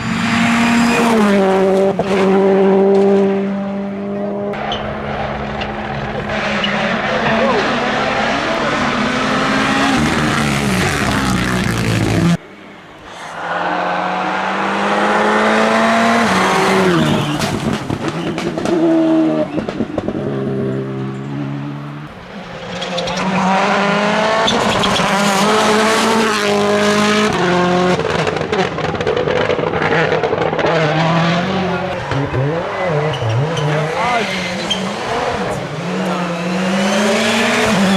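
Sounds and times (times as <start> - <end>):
rally car engine revving: 0.0 - 12.4, 13.1 - 37.9.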